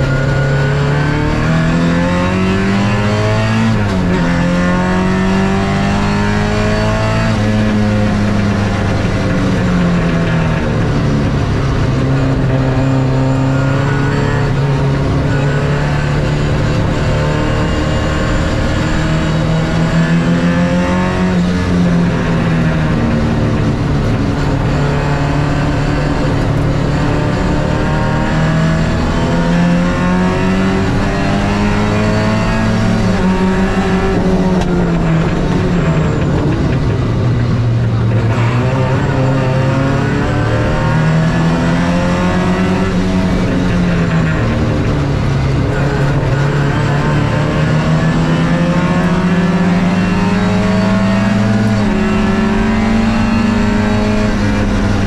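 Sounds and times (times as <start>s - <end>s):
racing car engine revving: 0.0s - 55.0s
road and wind noise: 0.0s - 55.0s.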